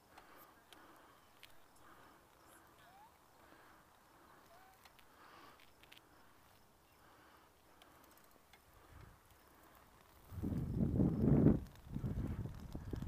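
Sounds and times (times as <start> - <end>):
faint ticks: 0.1 - 13.0.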